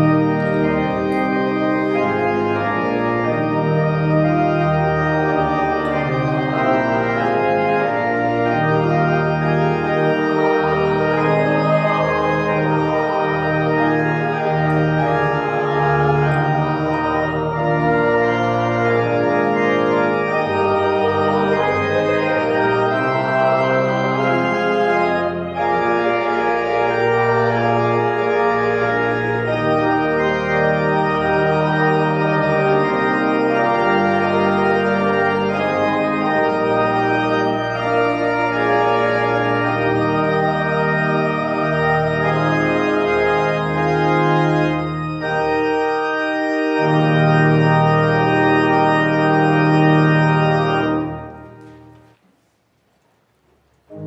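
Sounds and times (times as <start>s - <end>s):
organ playing slow chords: 0.0s - 52.2s, 53.7s - 54.0s.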